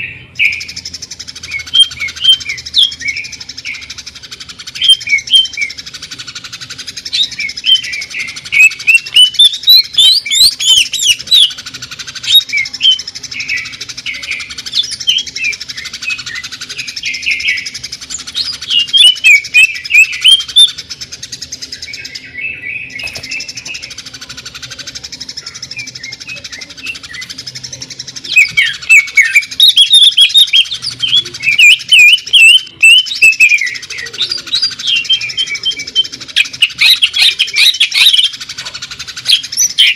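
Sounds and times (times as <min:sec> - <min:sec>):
bird singing rapid sharp notes: 0:00.0 - 0:39.9
soft bird chattering: 0:00.0 - 0:39.9.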